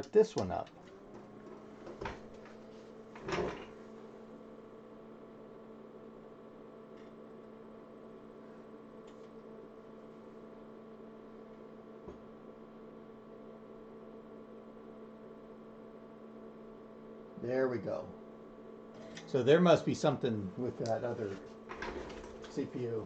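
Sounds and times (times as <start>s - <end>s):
computer fans humming: 0.0s - 23.0s.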